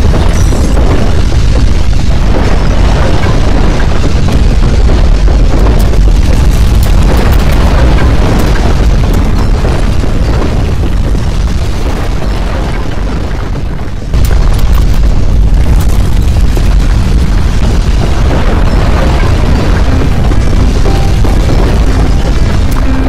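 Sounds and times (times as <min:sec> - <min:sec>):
crackles: 0:00.0 - 0:23.0
deep earthquake rumble: 0:00.0 - 0:23.0.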